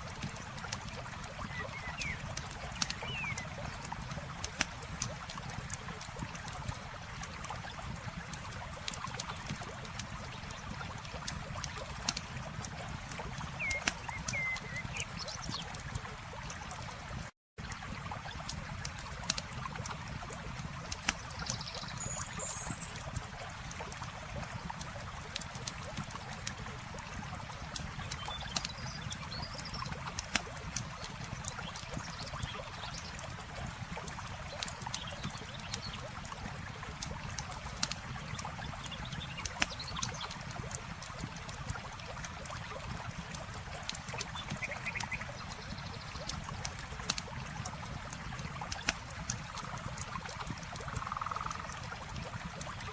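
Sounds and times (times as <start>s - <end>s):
flowing water: 0.0s - 52.9s
campfire crackling and popping: 2.0s - 22.3s, 22.9s - 52.9s.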